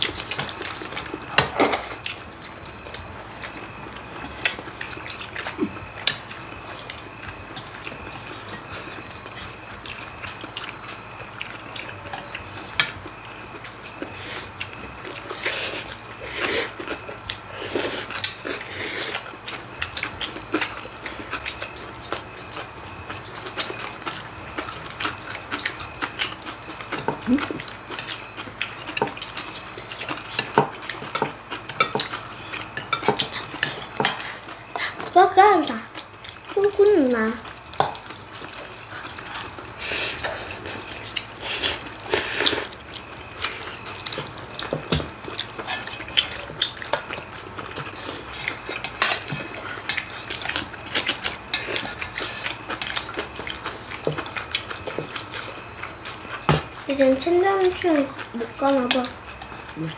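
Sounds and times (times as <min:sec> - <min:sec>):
chewing: 0:00.0 - 0:59.9.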